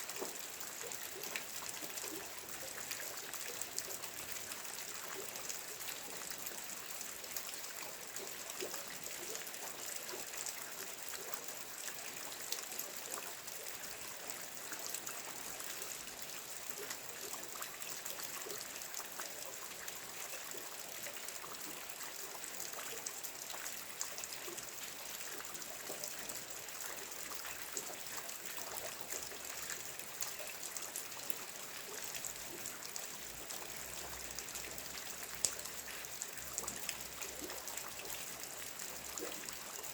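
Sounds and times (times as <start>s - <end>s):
water drips and patters: 0.0s - 39.9s.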